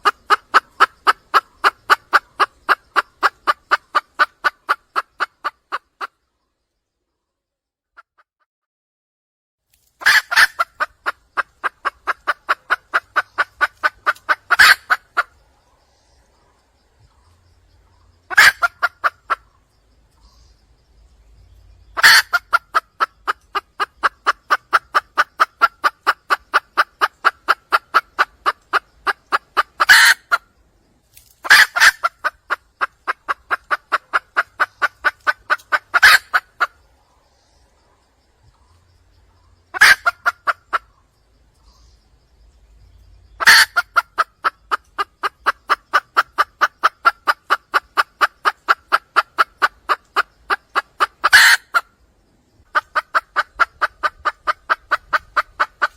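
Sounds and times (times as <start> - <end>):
hen clucking rapidly: 0.0 - 6.2, 10.0 - 20.4, 21.9 - 30.5, 31.4 - 37.1, 39.2 - 41.8, 43.3 - 52.0, 52.6 - 55.9.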